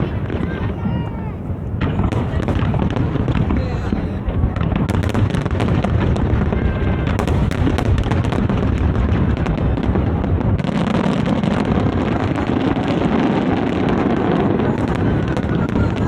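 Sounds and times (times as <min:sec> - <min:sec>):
fireworks booms and crackles: 0:00.0 - 0:16.0
heavy low rumble: 0:00.0 - 0:16.0.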